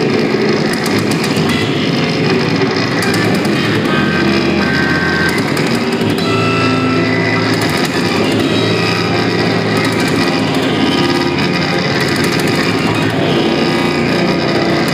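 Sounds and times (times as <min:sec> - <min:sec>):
distorted noise music drones: 0:00.0 - 0:14.9.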